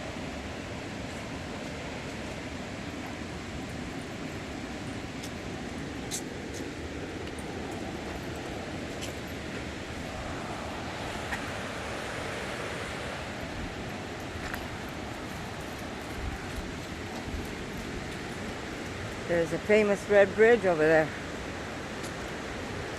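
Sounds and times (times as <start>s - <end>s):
river rapids rushing: 0.0s - 22.9s.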